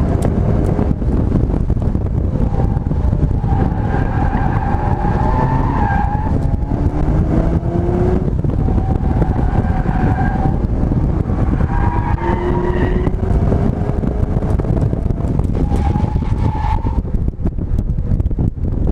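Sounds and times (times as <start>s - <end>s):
car engine accelerating: 0.0s - 17.0s
tyre and road rumble: 0.0s - 18.9s.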